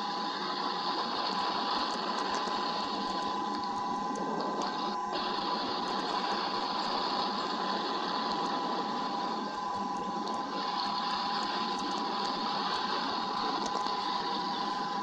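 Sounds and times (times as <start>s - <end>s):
faint steady whine: 0.0s - 15.0s
rain hissing on microphone: 0.0s - 15.0s.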